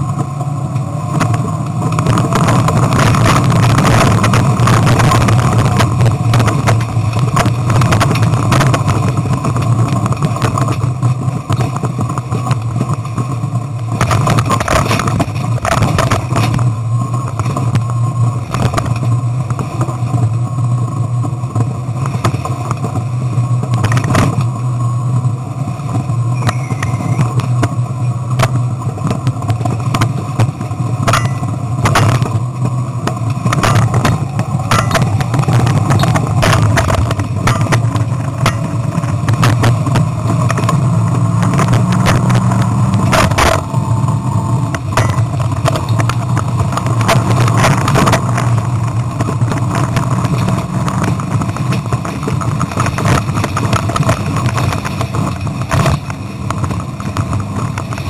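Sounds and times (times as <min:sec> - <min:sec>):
vehicle knocks and clatter: 0:00.0 - 0:24.8, 0:25.6 - 0:58.0
engine running hard: 0:00.0 - 0:58.0.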